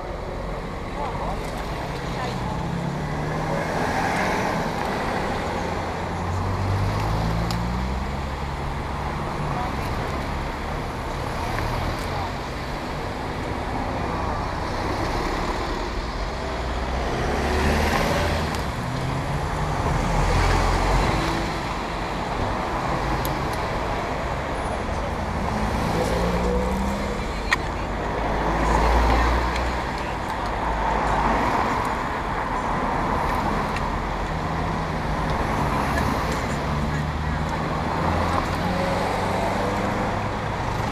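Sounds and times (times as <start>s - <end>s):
cars driving past: 1.2s - 40.9s.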